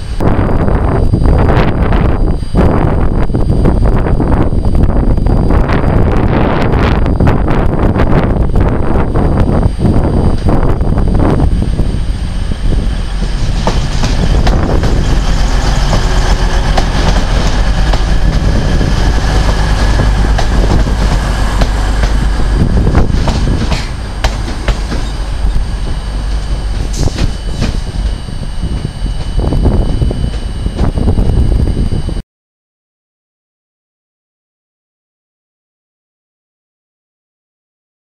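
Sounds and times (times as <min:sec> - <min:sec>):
diesel train engine rumble: 0:00.0 - 0:32.0
faint high whine: 0:00.0 - 0:32.2.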